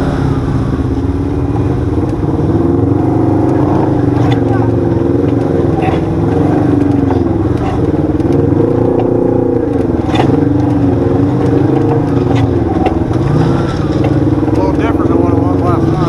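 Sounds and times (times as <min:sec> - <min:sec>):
utility vehicle engine revving: 0:00.0 - 0:16.0
knocks and rattles: 0:02.0 - 0:16.0.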